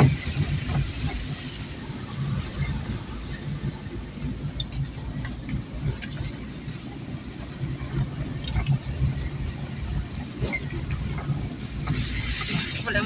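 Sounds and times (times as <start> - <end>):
road noise: 0.0 - 13.0
vehicle engine rumbling: 0.0 - 13.0.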